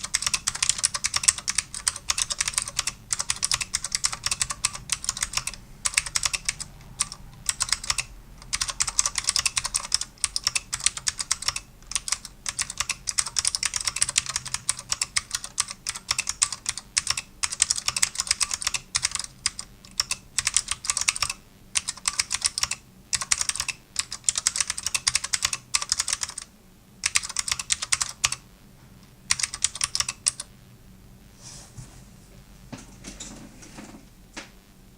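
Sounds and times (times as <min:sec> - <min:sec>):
typing on mechanical keyboard: 0:00.0 - 0:28.4, 0:29.3 - 0:30.5.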